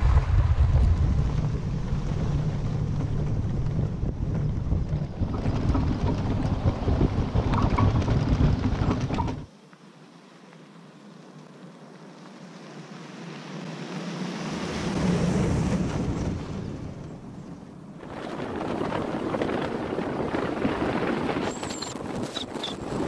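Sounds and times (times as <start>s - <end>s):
vehicle passing on dirt road: 0.0s - 23.0s
wind and gravel road noise: 0.0s - 23.0s.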